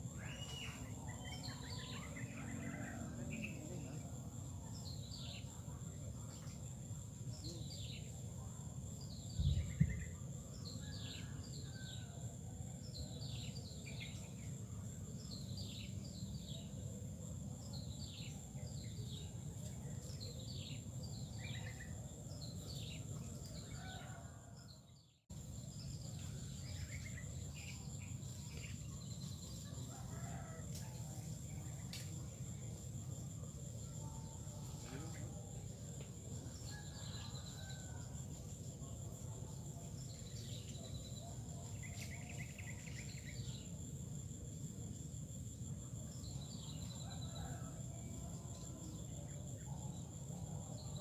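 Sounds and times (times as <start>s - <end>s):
high insect drone: 0.0s - 24.7s, 25.3s - 51.0s.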